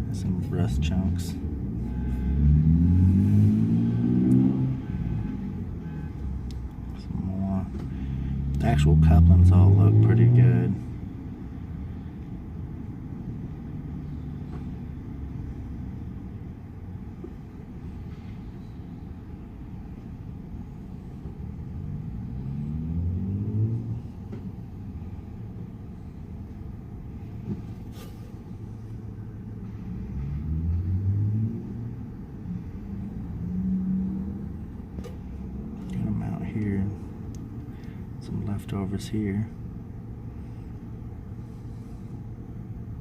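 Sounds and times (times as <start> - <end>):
engine rumble speeding up: 0.0 - 43.0.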